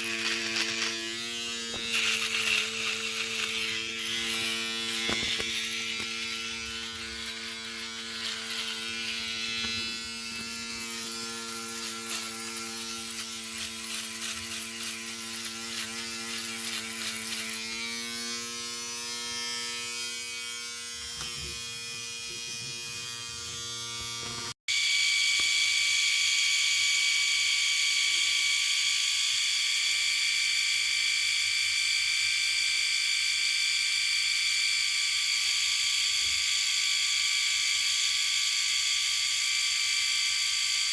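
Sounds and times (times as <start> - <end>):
electric shaver buzzing: 0.0 - 40.9
electric shaver with high whine: 0.0 - 40.9.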